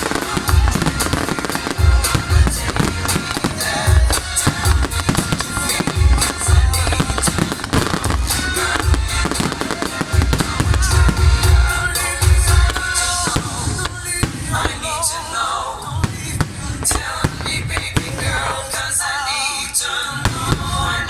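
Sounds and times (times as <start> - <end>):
fireworks booming and crackling: 0.0 - 21.0
loud music over loudspeakers: 0.0 - 21.0.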